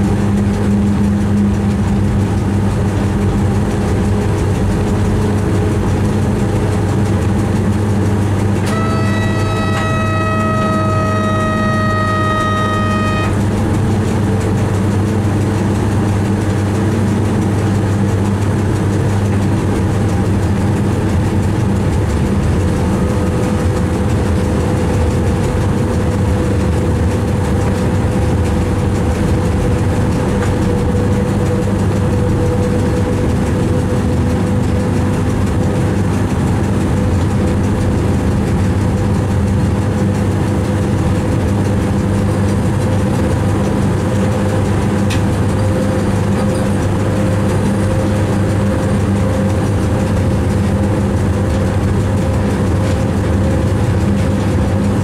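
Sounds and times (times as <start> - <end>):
train running hum: 0.0 - 55.0.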